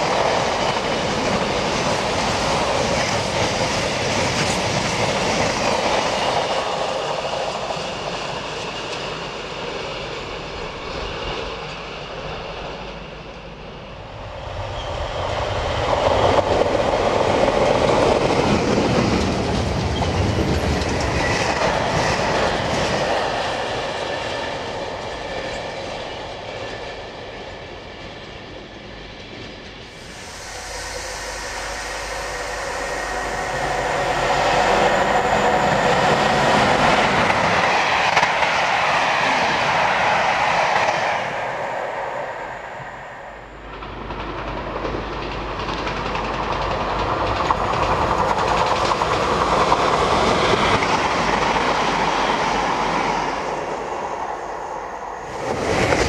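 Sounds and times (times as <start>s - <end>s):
freight train passing: 0.0s - 56.0s
train approaching: 0.0s - 56.0s.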